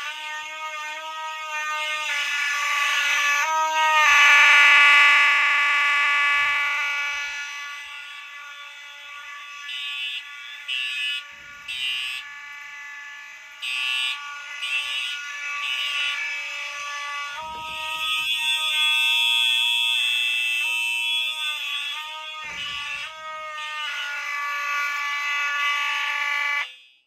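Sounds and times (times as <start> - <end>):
fire alarm horns sounding: 0.0 - 27.0.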